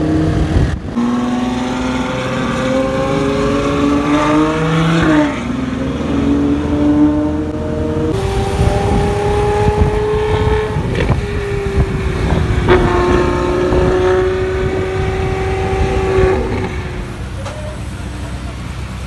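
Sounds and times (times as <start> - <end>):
sports car engine cruising: 0.0 - 19.0.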